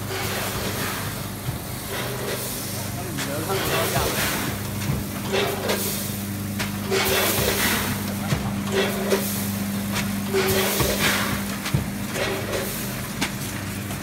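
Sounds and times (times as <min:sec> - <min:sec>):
packing machine hum: 0:00.0 - 0:14.0.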